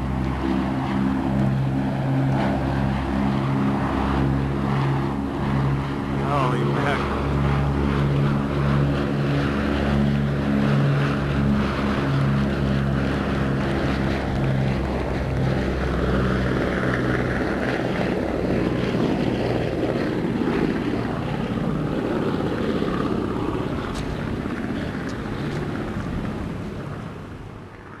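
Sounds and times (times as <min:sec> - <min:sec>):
radial aircraft engines droning: 0:00.0 - 0:28.0.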